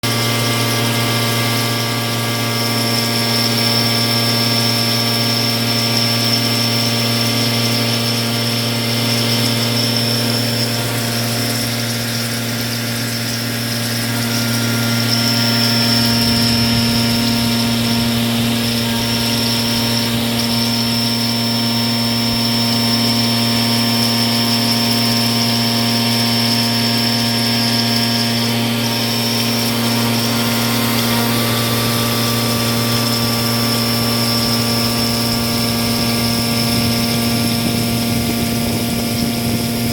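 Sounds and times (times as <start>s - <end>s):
high whistling cutter tone: 0.0s - 39.9s
milling machine spindle whine: 0.0s - 39.9s.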